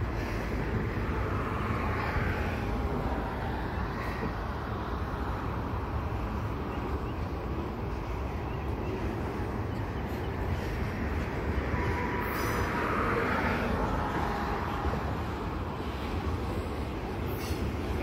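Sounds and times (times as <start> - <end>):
train wheels on rails: 0.0 - 18.0.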